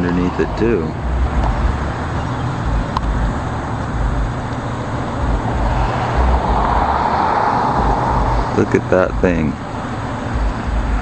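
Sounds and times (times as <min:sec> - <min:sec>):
road traffic noise: 0:00.0 - 0:11.0
vehicle approaching: 0:00.0 - 0:11.0.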